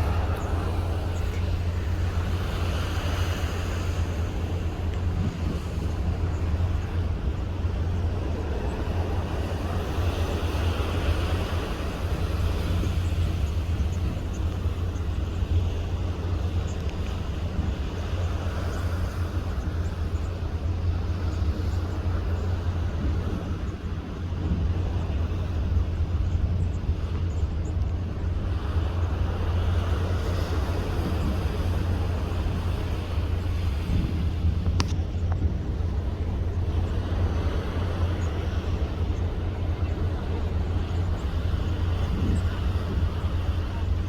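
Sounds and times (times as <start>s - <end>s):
strong wind on microphone: 0.0s - 44.0s.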